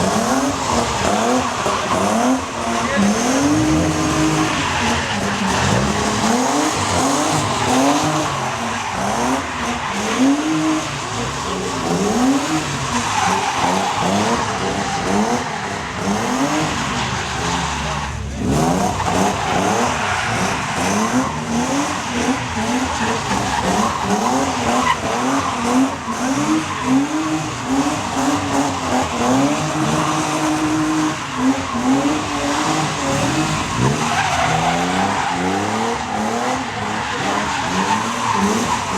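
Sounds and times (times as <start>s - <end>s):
car engines revving: 0.0s - 38.9s
tyres squealing and skidding: 0.0s - 38.9s.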